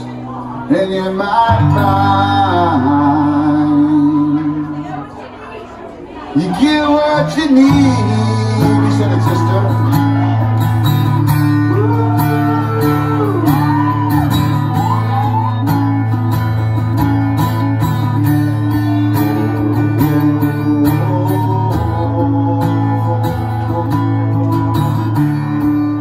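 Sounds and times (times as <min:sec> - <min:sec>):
sliding guitar melody: 0:00.0 - 0:05.2, 0:06.4 - 0:26.0
strummed guitar music: 0:00.0 - 0:05.4, 0:06.2 - 0:26.0.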